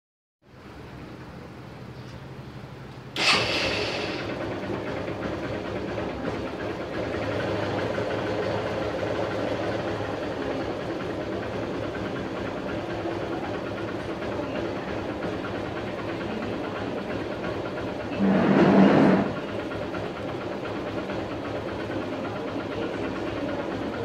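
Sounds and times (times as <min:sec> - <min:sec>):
motorcycle engine starting and idling: 0:00.6 - 0:24.0.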